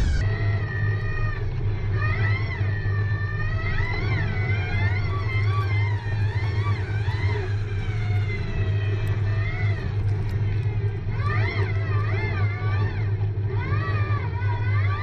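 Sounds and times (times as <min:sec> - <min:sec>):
electric motor whining: 0:00.0 - 0:13.2
steady low rumble: 0:00.0 - 0:13.7.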